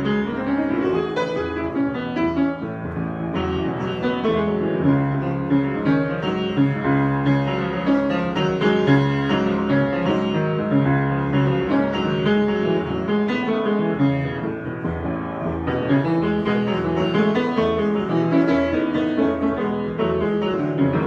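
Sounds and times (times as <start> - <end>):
piano improvisation: 0.0 - 21.0.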